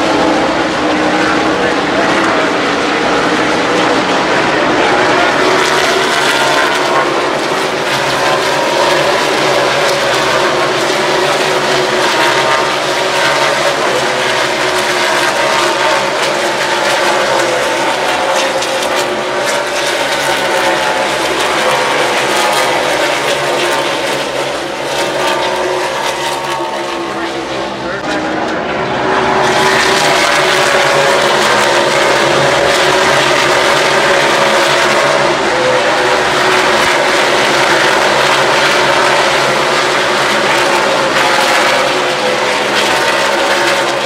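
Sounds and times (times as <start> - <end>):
race car engines passing: 0.0 - 44.0.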